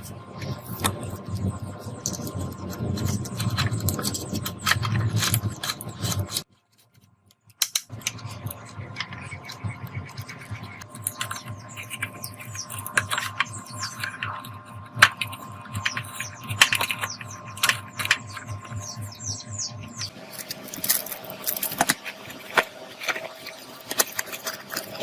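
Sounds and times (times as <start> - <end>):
small parts and tools clicking: 2.0 - 19.2, 19.9 - 25.0.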